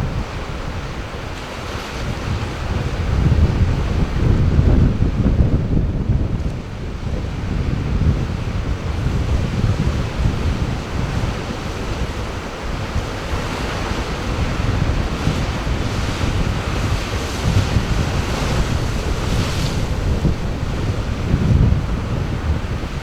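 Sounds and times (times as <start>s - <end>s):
sea surf washing: 0.0s - 23.0s
wind buffeting microphone: 0.0s - 23.0s.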